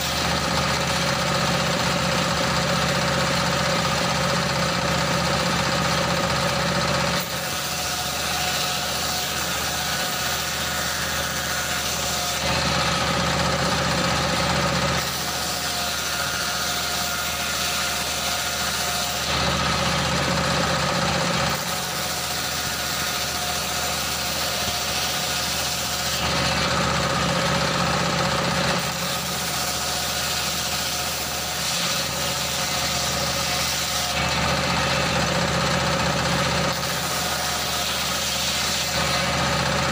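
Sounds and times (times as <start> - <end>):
circular saw ripping wood: 0.0 - 39.9
single-cylinder engine running: 0.0 - 39.9.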